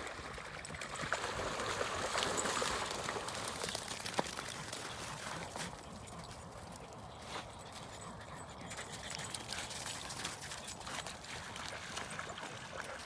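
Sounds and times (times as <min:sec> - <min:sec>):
dogs splashing through water: 0:00.0 - 0:13.0.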